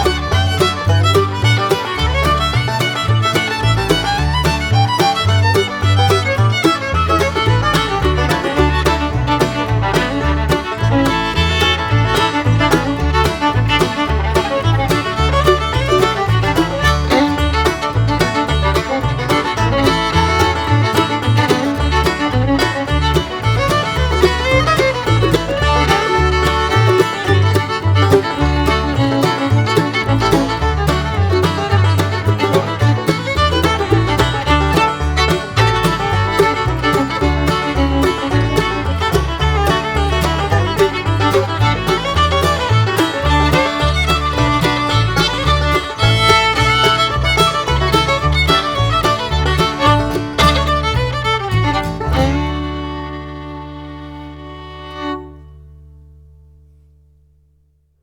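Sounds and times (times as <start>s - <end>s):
upbeat instrumental music: 0.0s - 55.6s.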